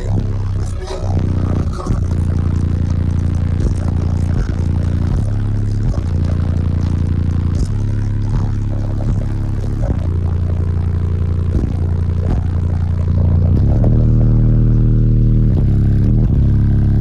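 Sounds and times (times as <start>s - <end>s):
bass-heavy music from subwoofers: 0.0s - 17.0s.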